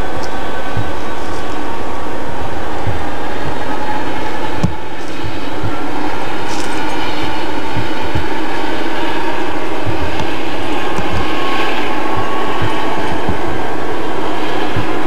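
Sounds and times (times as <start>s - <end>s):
low thumps: 0.0s - 15.0s
train cars rumbling on rails: 0.0s - 15.0s.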